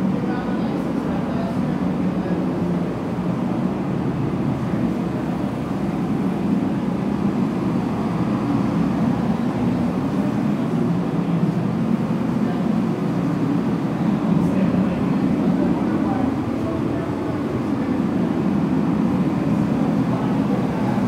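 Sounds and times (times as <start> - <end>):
space heater rushing: 0.0 - 21.0.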